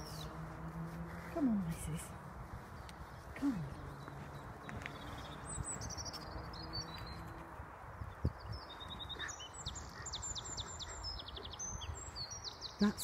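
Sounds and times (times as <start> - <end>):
wren singing: 0.0 - 0.5, 1.4 - 13.0.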